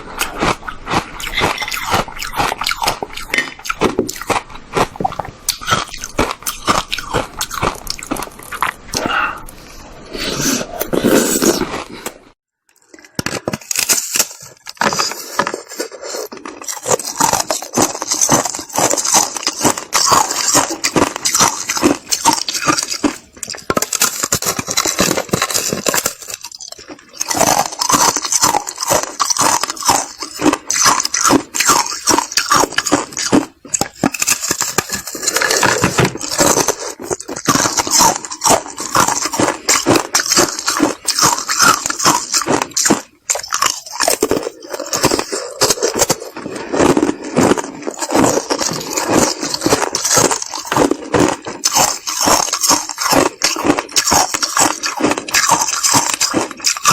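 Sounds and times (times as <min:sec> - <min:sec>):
ice crunching being chewed: 0:00.0 - 0:56.9.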